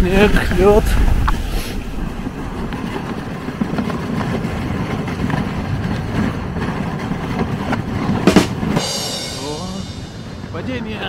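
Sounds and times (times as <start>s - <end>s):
sled runners sliding on ice: 0.0s - 11.0s.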